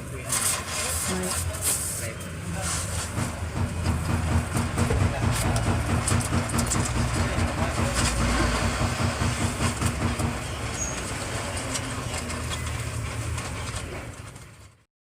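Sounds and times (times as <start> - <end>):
engine humming: 1.0 - 14.8.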